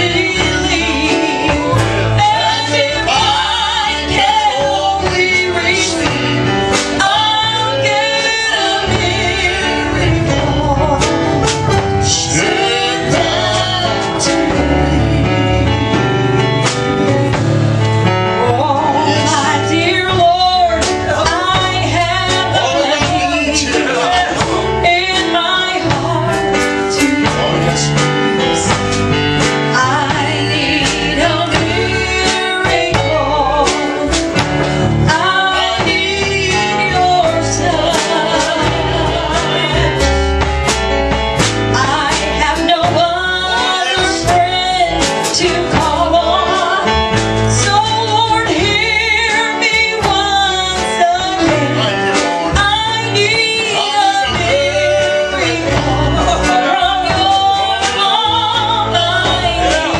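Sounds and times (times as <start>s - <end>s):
man and woman singing duet: 0.0s - 16.5s, 18.0s - 59.9s
live band with guitar and bass: 0.0s - 59.9s.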